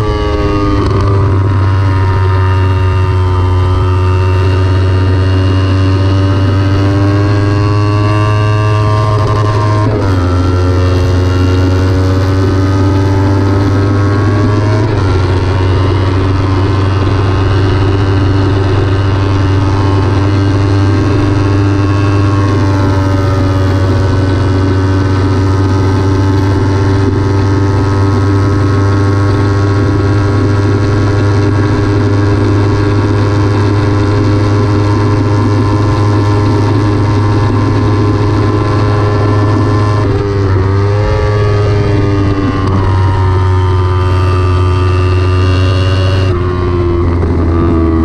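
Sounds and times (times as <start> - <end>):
motorcycle engine revving high: 0.0 - 48.0
wind noise on microphone: 0.0 - 48.0.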